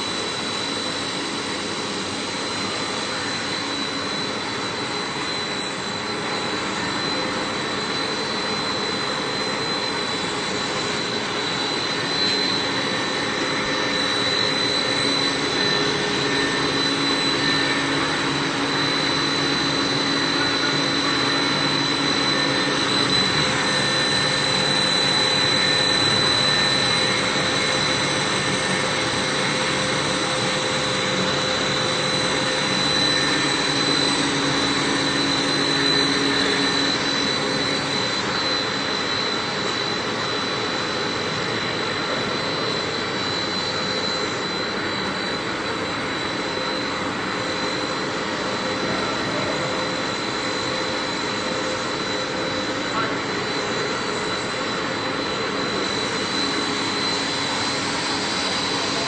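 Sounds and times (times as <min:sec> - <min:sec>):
high machine whine: 0:00.0 - 0:59.0
machine hiss and hum: 0:00.0 - 0:59.0.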